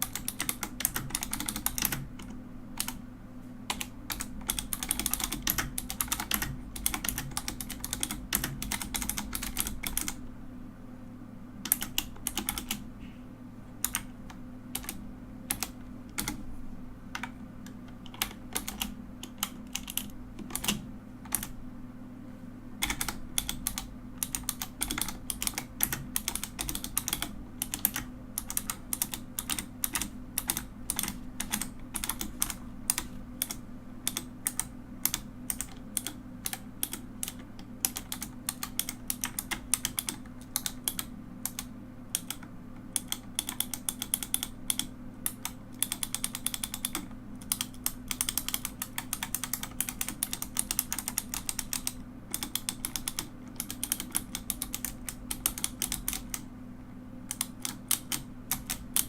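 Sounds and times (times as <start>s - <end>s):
mechanical keyboard typing: 0.0s - 3.0s, 3.7s - 10.2s, 11.6s - 12.8s, 13.8s - 16.5s, 17.1s - 21.6s, 22.8s - 56.5s, 57.2s - 59.0s.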